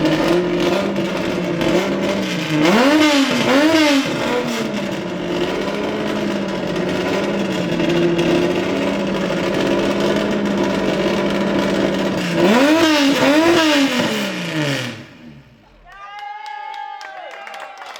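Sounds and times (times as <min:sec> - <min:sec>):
race car engine idling and revving: 0:00.0 - 0:15.8.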